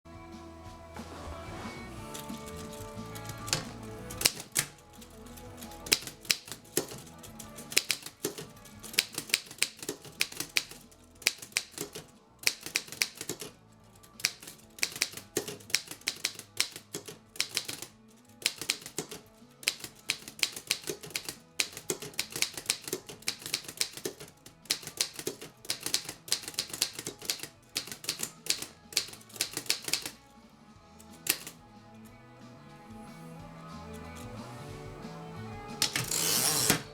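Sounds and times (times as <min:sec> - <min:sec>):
manual typewriter typing: 0:02.0 - 0:30.2, 0:31.1 - 0:31.6, 0:35.8 - 0:36.9.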